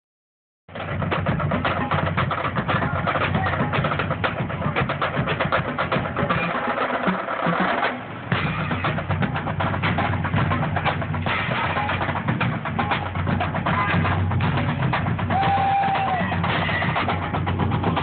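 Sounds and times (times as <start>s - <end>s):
group drumming: 0.7s - 18.0s.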